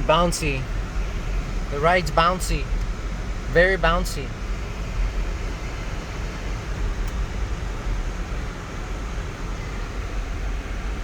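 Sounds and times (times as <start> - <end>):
in-cabin road noise: 0.0 - 11.0.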